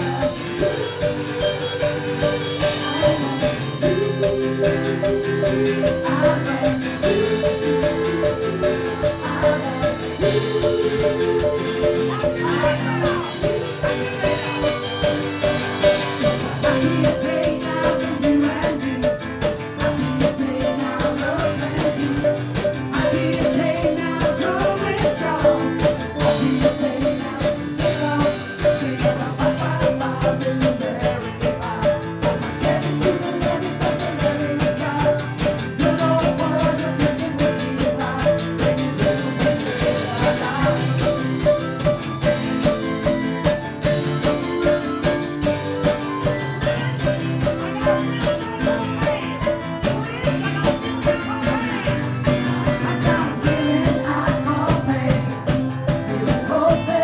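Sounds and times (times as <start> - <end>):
drum kit steady beat: 0.0 - 57.0
guitars strumming: 0.0 - 57.0.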